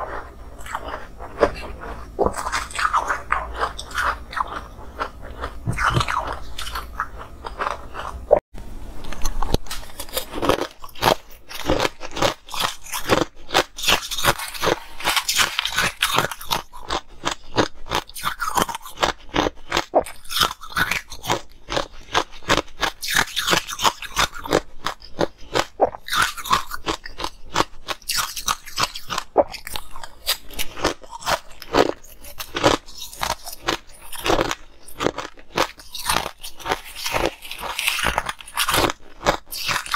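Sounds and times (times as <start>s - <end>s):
chewing ice crunches: 0.0s - 8.2s, 9.0s - 39.9s.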